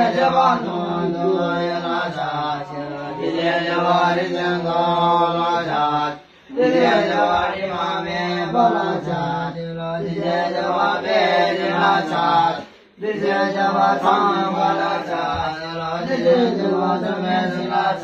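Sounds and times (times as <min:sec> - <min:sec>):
melodic prayer chanting: 0:00.0 - 0:18.0.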